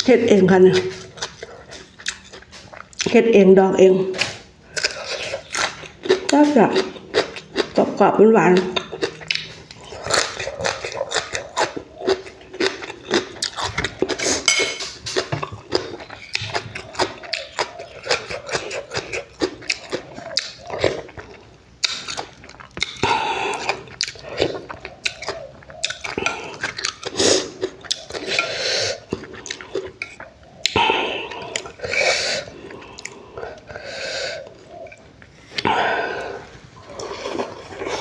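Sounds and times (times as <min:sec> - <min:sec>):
person chewing with mouth open: 0:00.0 - 0:03.2, 0:04.1 - 0:38.0.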